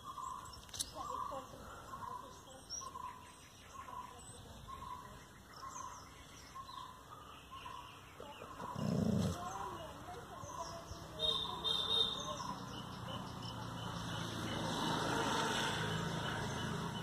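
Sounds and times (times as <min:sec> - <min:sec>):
faint high bird chirps: 0:00.0 - 0:14.7.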